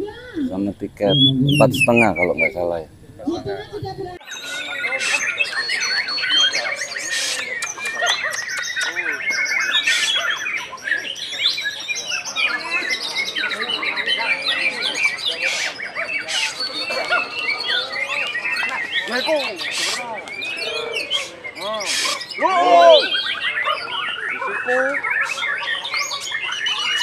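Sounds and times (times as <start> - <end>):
songbird singing whistles and trills: 0.3 - 2.6, 4.2 - 27.0.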